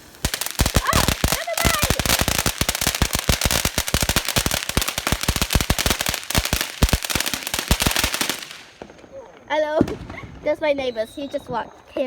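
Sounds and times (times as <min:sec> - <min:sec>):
fireworks crackling: 0:00.0 - 0:11.8.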